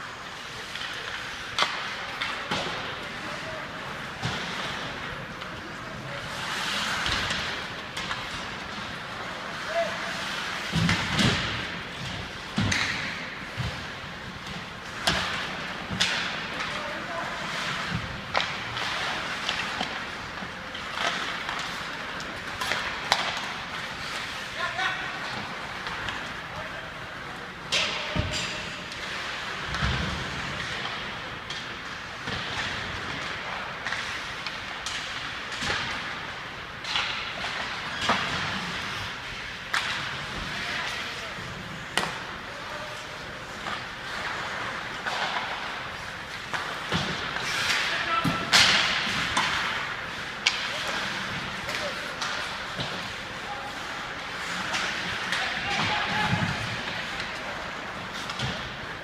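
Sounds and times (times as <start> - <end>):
skate blades scraping ice: 0.0 - 59.0
hockey sticks and puck knocking: 0.1 - 59.0.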